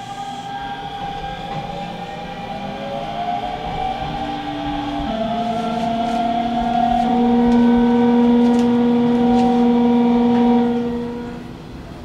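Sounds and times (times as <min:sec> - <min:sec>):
electric train motors whining: 0:00.0 - 0:11.9.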